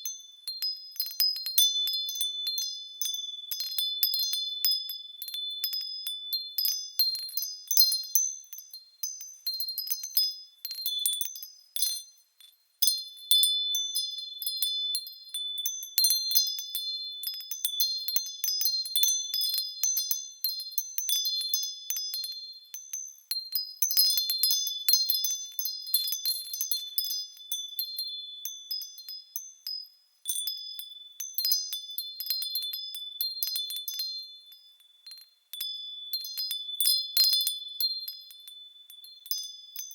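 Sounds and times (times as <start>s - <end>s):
wind chimes tinkling: 0.0s - 39.9s.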